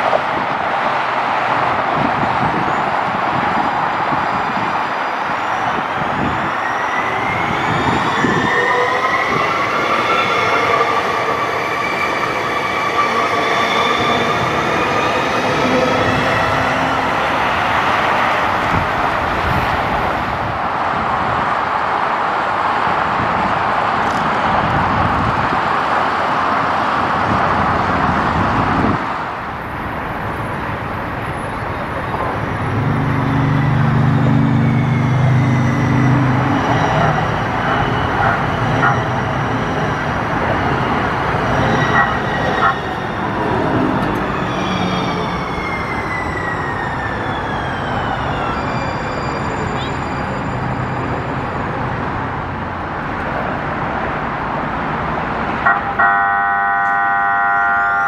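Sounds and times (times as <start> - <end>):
train rushing on track: 0.0 - 58.0.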